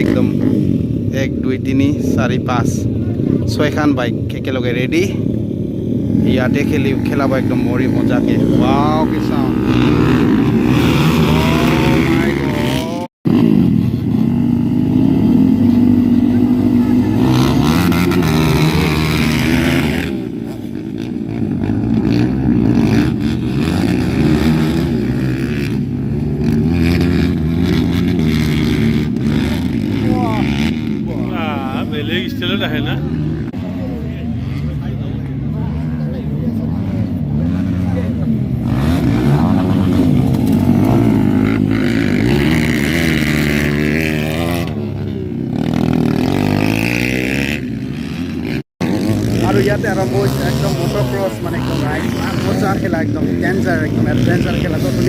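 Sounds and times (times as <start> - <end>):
dirt bikes idling and revving: 0.0 - 55.0.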